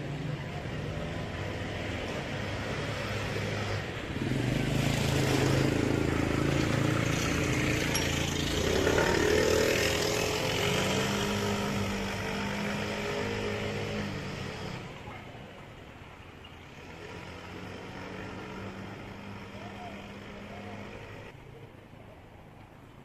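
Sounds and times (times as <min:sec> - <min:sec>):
vehicle engines passing in traffic: 0:00.0 - 0:23.0.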